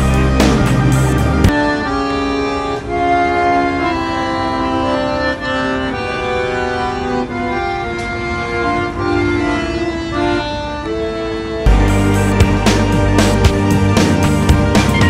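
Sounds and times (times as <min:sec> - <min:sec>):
piano accordion playing chords: 0:00.0 - 0:15.0.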